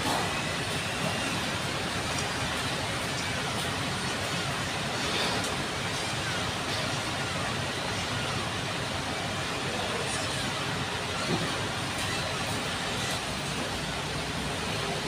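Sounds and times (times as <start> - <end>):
urban traffic rumble: 0.0 - 15.0.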